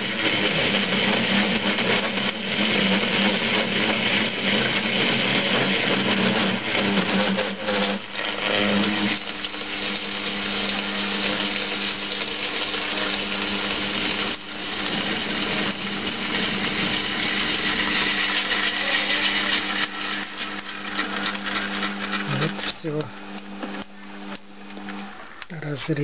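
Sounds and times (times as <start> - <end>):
saw cutting hiss: 0.0 - 23.1
milling machine motor hum: 0.0 - 26.0.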